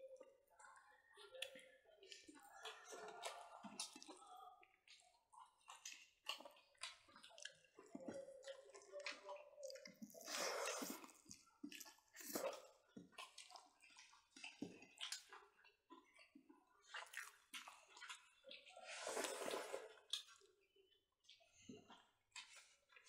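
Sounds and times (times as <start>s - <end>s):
wet chewing and lip-smacking: 0.2s - 23.0s.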